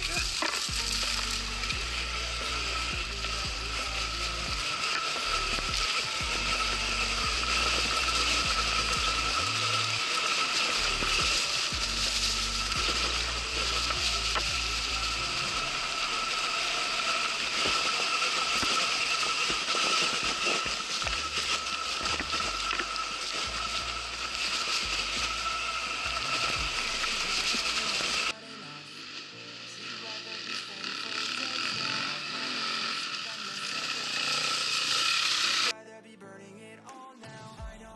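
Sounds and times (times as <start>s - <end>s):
electric motor whine: 0.0s - 35.8s.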